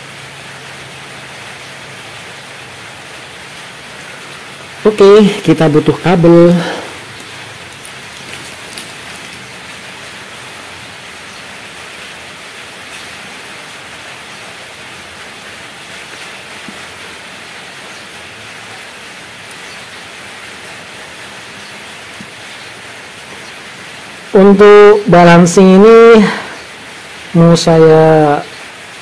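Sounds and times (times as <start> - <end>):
steady rain hissing: 0.0 - 29.0.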